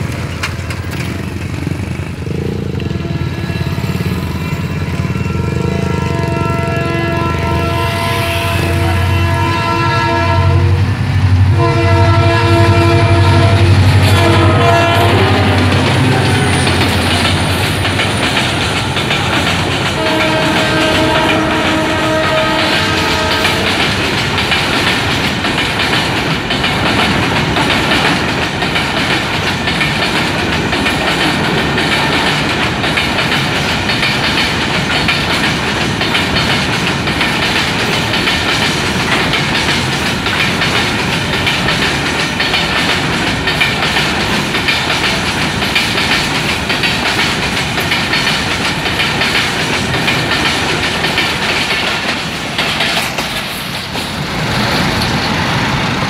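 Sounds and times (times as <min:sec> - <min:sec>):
train wheels clattering over rail joints: 0:00.0 - 0:05.2, 0:12.6 - 0:56.0.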